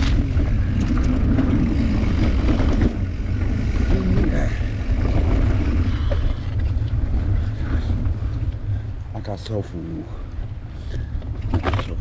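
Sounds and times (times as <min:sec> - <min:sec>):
bicycle tyres rolling on dirt: 0:00.0 - 0:12.0
wind buffeting microphone: 0:00.0 - 0:12.0.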